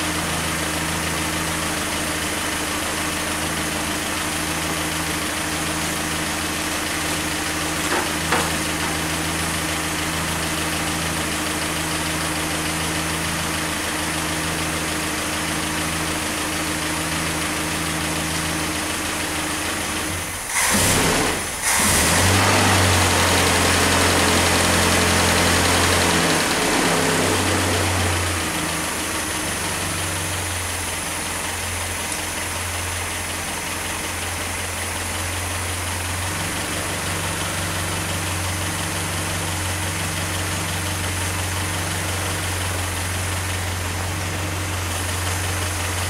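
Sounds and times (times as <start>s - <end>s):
car engine idling: 0.0s - 20.5s, 23.4s - 46.0s.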